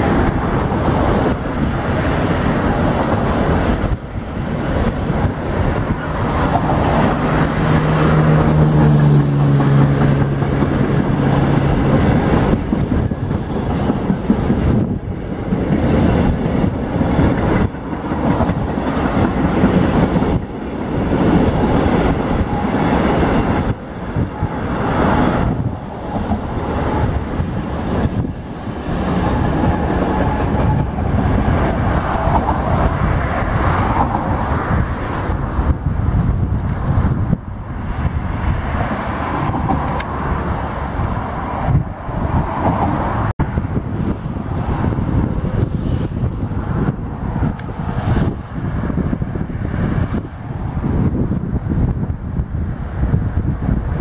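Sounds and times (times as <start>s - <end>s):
freight train wheels on rails: 0.0s - 54.0s
road traffic passing: 0.0s - 54.0s.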